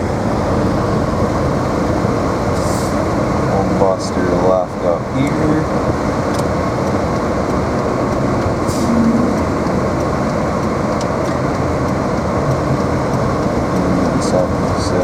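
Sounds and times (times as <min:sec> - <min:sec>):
car engine and road noise: 0:00.0 - 0:15.0
heater fan blowing: 0:00.0 - 0:15.0.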